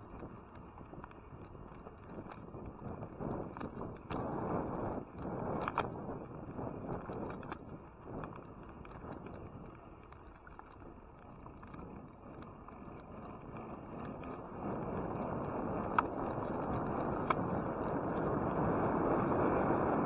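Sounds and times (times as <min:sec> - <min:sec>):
bicycle tyres rolling on asphalt: 0:00.0 - 0:20.0
bike rattling clicks: 0:00.0 - 0:20.0
wind on microphone: 0:00.0 - 0:20.0.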